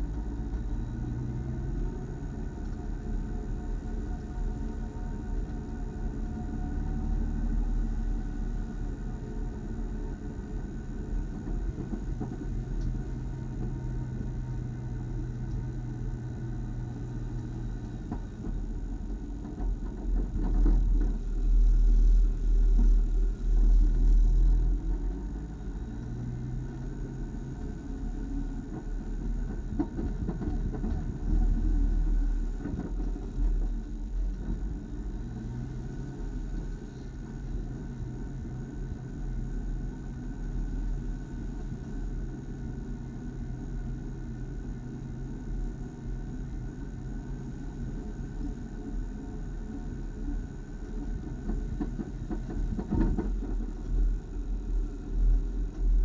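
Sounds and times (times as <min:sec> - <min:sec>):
race car engine rumbling: 0:00.0 - 0:56.0.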